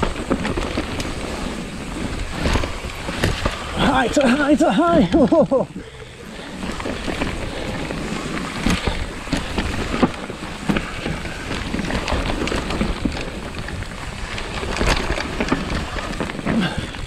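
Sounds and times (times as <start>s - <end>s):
bike knocking and rattling: 0.0s - 17.0s
tyres rolling over dirt: 0.0s - 17.0s
wind rushing over microphone: 0.0s - 17.0s.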